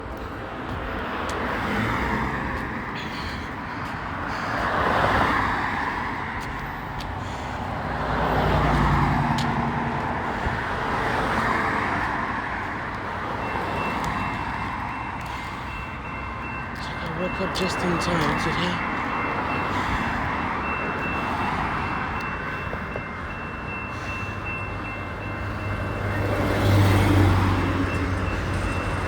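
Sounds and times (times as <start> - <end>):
vehicles passing with tyre noise: 0.0 - 29.0.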